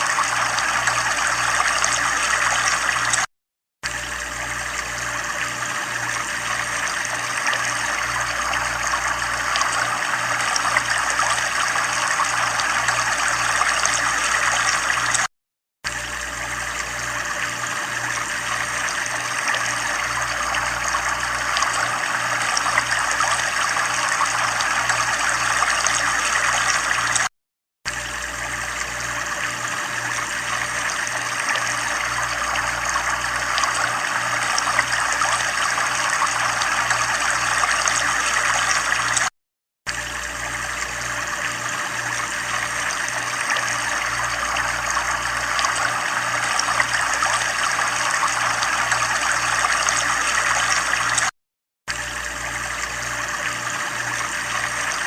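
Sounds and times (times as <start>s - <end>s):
running water trickling: 0.0s - 15.3s, 15.9s - 27.3s, 27.9s - 39.3s, 39.9s - 51.3s.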